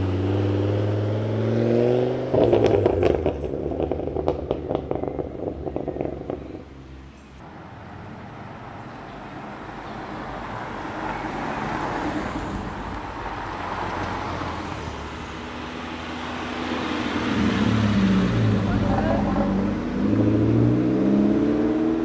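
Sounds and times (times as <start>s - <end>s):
cars creeping along: 0.0s - 22.0s.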